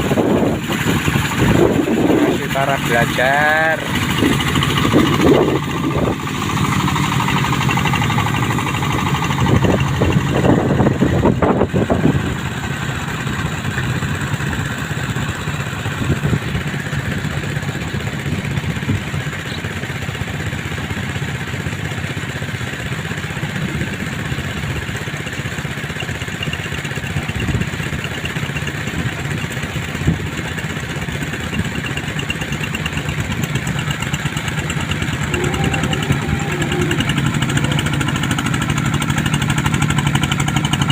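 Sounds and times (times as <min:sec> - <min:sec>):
boat engine drone: 0:00.0 - 0:40.9.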